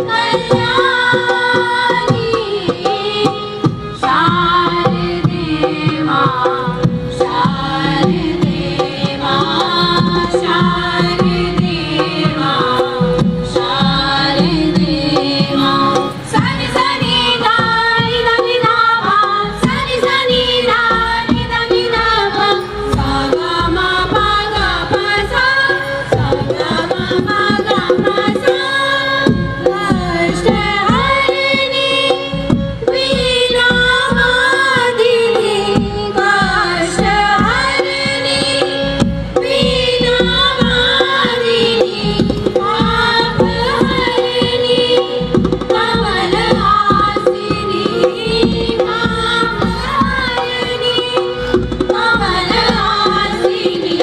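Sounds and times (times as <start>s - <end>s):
steady drum percussion: 0.0s - 54.0s.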